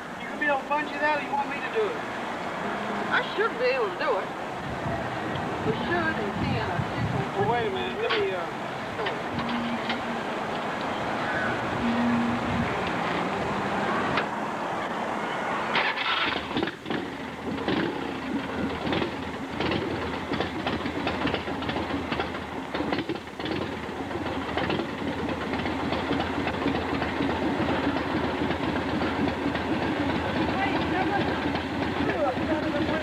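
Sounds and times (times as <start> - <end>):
motorcycle engine running: 4.6 - 14.4, 15.8 - 33.0.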